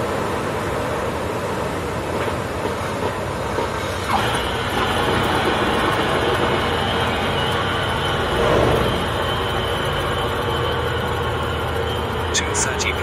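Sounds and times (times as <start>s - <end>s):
airplane engine idling: 0.0s - 13.0s.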